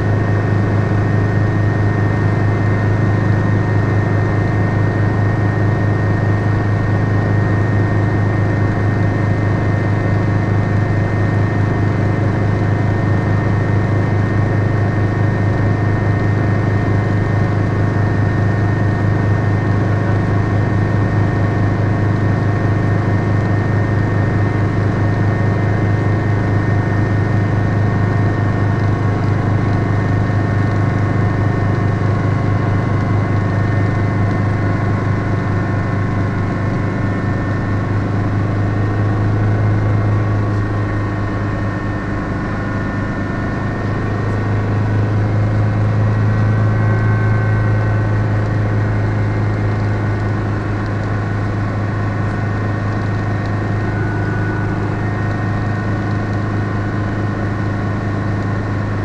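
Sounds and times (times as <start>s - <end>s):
helicopter cabin drone: 0.0s - 59.0s.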